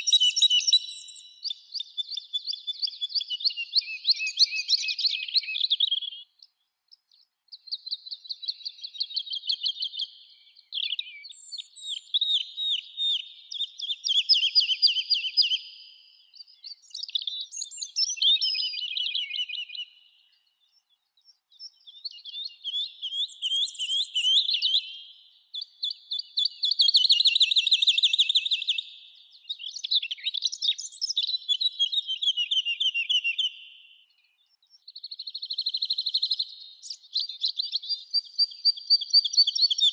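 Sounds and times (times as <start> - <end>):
songbirds singing trills: 0.0 - 39.9.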